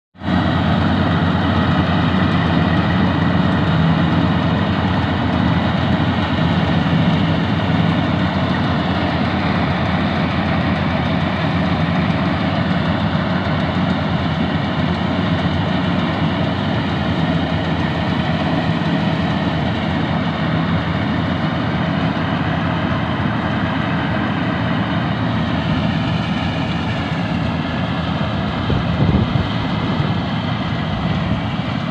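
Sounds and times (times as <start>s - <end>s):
farm machine engine drone: 0.2s - 31.9s.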